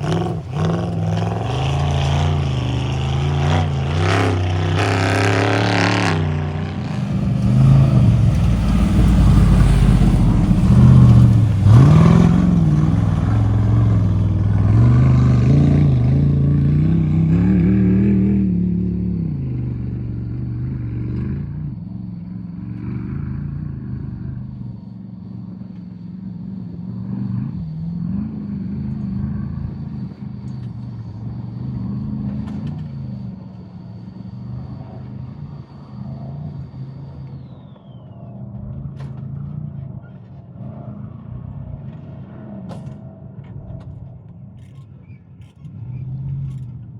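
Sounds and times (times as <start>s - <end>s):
race vehicle engine revving: 0.0s - 46.9s.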